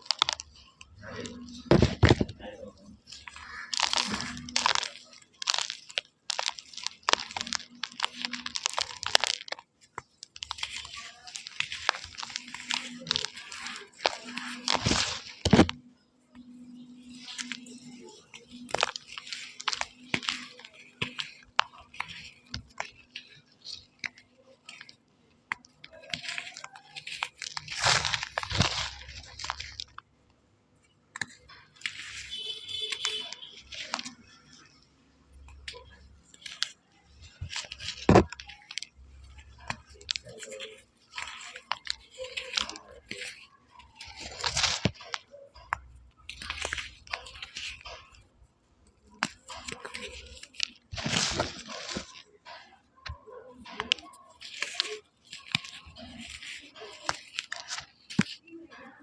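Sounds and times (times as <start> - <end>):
chalk crunching: 0.0 - 30.1, 30.8 - 59.0.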